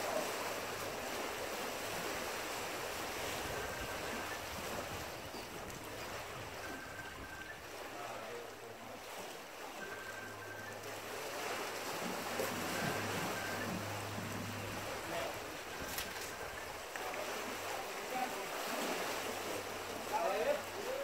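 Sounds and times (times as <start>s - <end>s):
water splashing against rocks: 0.0s - 21.0s.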